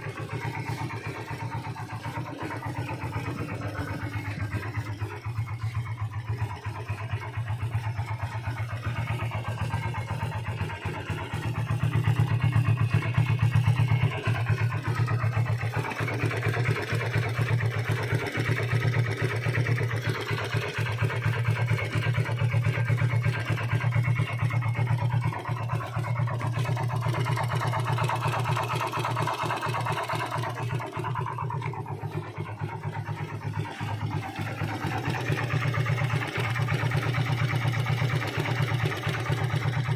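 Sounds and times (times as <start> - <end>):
engine knocking: 0.0 - 39.9
motorcycle engine idling: 0.0 - 39.9.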